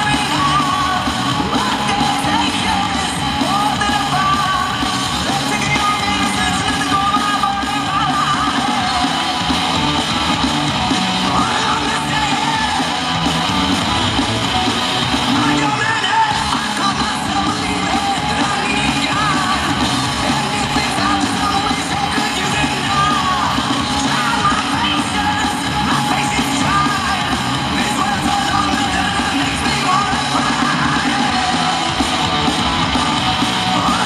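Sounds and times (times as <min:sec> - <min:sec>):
loud rock song with singer: 0:00.0 - 0:34.0.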